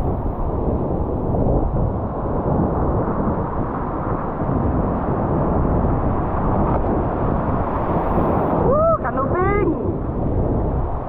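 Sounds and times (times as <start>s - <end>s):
heavy surf: 0.0s - 11.0s
wind rushing on microphone: 0.0s - 11.0s.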